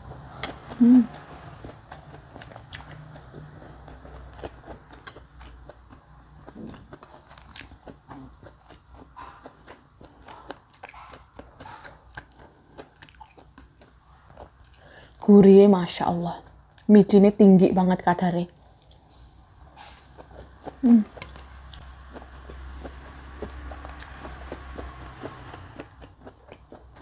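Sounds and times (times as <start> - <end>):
person chewing soft food: 0.0 - 15.2, 18.6 - 27.0.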